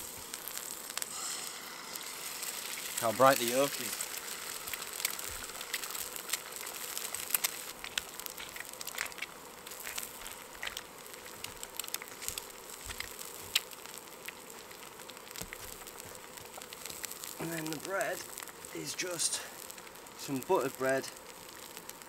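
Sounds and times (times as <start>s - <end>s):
fat crackling and popping: 0.0s - 22.0s
food sizzling in a pan: 0.0s - 22.0s.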